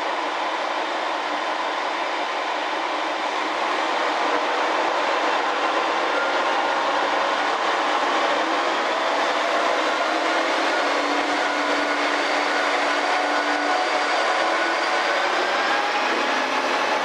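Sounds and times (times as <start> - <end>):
diesel railcar engine: 0.0 - 17.0
rail noise: 0.0 - 17.0.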